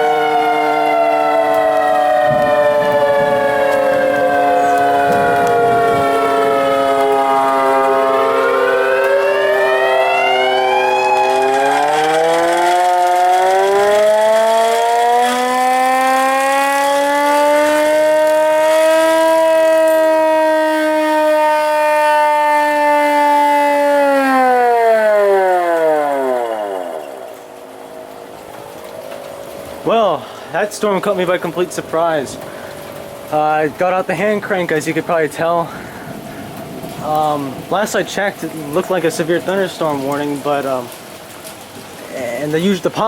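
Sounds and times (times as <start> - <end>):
warning sirens wailing: 0.0 - 43.0.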